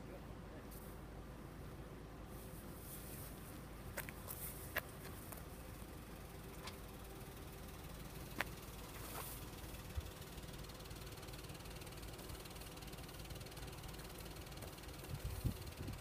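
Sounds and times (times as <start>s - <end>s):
cars idling rumble: 0.0s - 16.0s.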